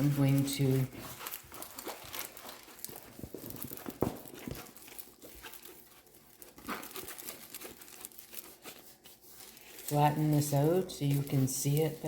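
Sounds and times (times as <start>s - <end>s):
plastic canvas rustling: 0.0s - 12.0s.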